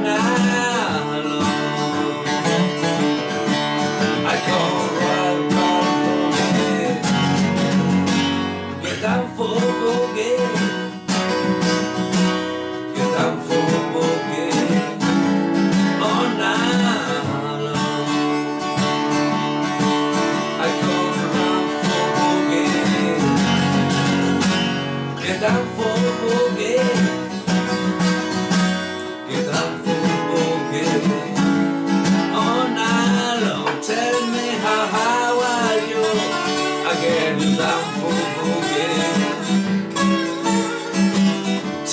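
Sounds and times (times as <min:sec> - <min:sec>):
acoustic guitars strumming: 0:00.0 - 0:41.9.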